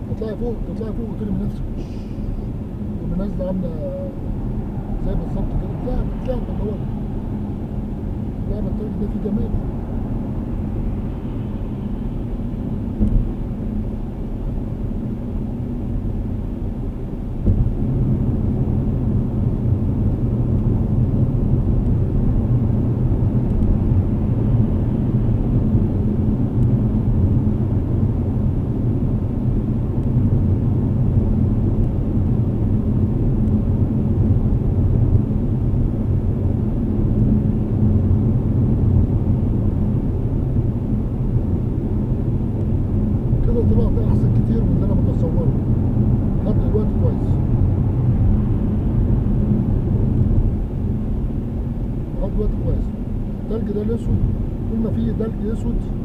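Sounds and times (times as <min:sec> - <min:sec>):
road and engine rumble inside car: 0:00.0 - 0:56.0.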